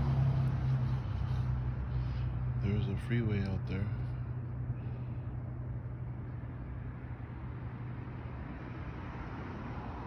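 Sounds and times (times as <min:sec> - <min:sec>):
distant freeway traffic: 0:00.0 - 0:10.0
low droning hum in sky: 0:00.0 - 0:10.0.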